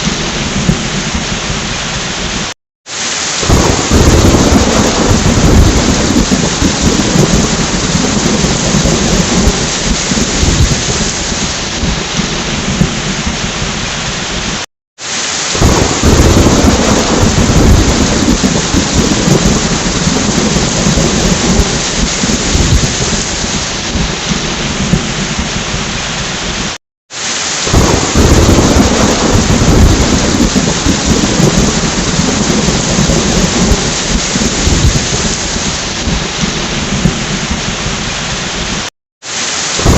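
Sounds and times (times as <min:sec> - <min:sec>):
rolling thunder rumble: 0:00.0 - 0:02.5, 0:03.4 - 0:14.6, 0:15.6 - 0:26.7, 0:27.7 - 0:38.9
heavy rain: 0:00.0 - 0:39.9.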